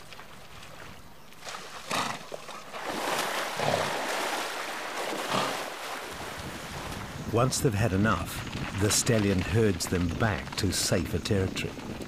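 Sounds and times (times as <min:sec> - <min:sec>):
hooves splashing in water: 0:00.0 - 0:12.0.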